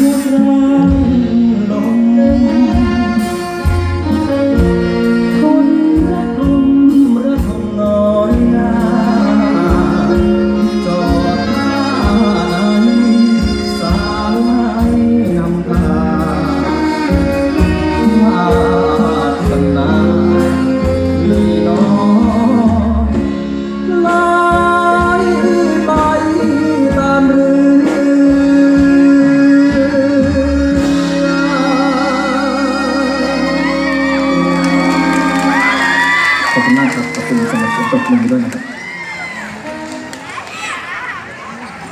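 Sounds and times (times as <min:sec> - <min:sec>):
person singing with vibrato: 0:00.0 - 0:37.4
live band with low beat: 0:00.0 - 0:41.9.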